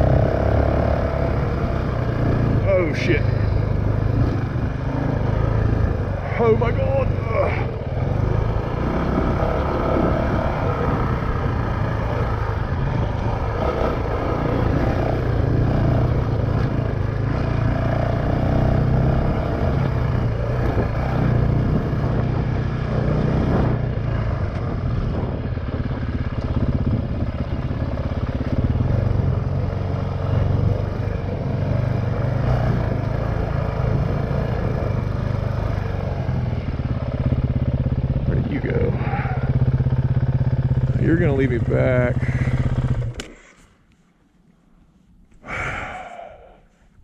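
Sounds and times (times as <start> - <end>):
dirt bike engine running: 0.0 - 43.5.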